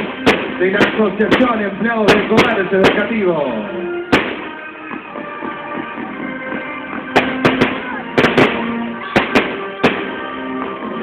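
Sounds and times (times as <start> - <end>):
fireworks bangs: 0.0 - 5.2, 6.5 - 11.0
music: 0.0 - 11.0.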